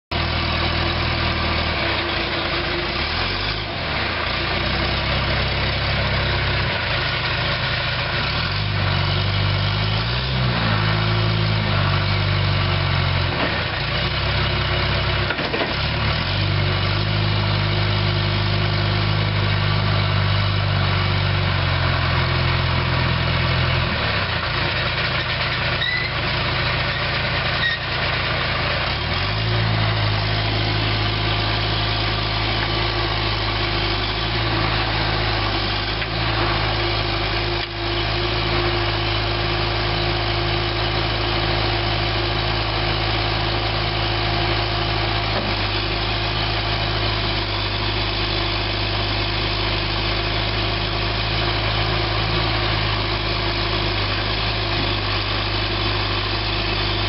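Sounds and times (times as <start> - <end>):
diesel engine running: 0.1 - 57.0.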